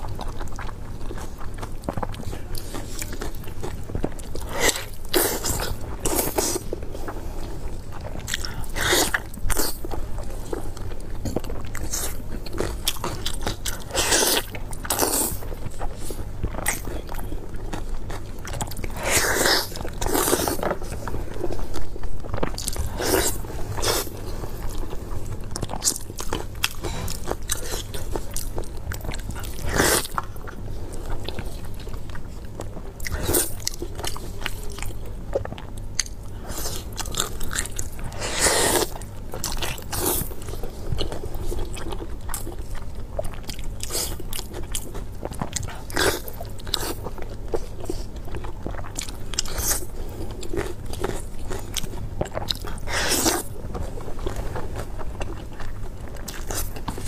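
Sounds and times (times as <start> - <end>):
person chewing soft meat: 0.0 - 57.0.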